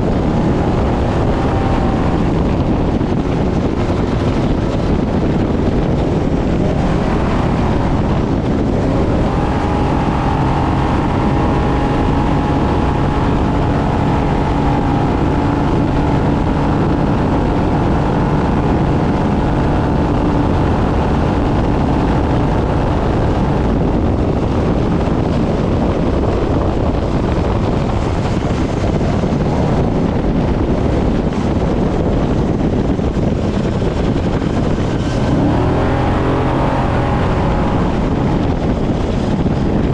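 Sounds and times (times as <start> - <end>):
heavy wind noise: 0.0 - 39.9
rough-terrain road noise: 0.0 - 39.9
truck engine running hard: 0.0 - 39.9.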